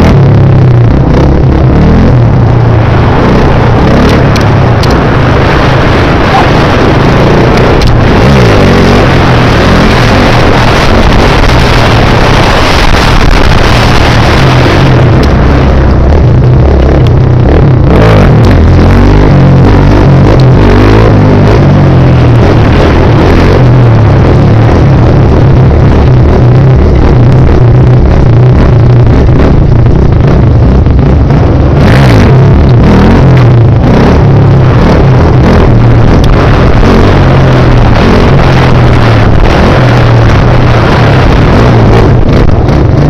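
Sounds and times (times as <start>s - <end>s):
atv engine revving: 0.0s - 43.0s.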